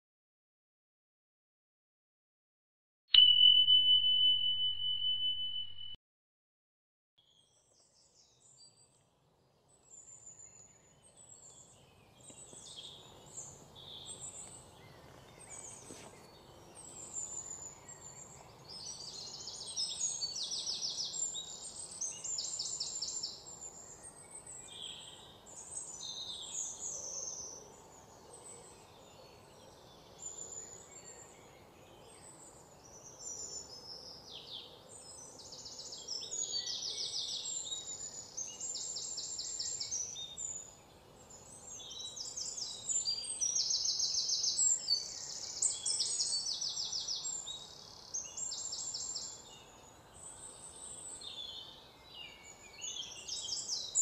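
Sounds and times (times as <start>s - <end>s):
birds calling and chirping: 9.8s - 54.0s.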